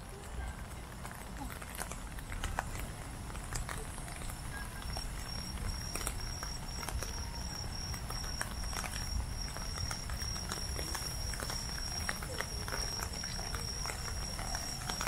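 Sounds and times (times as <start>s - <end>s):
low steady rumble: 0.0s - 15.0s
fireworks crackling and popping: 0.1s - 15.0s.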